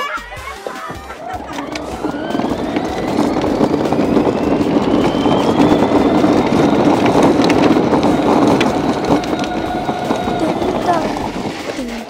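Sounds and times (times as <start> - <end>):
wheels rolling on asphalt: 0.9 - 12.0
electric motor whine: 1.2 - 12.0.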